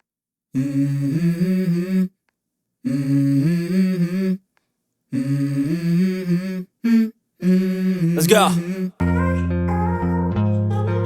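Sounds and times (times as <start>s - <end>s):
wordless vocal music: 0.6s - 2.2s, 2.8s - 4.4s, 5.1s - 11.0s.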